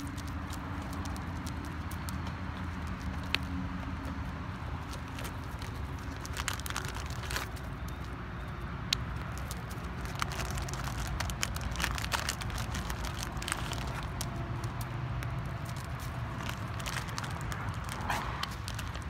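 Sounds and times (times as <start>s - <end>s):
dog claws clicking on paving: 0.0s - 19.0s.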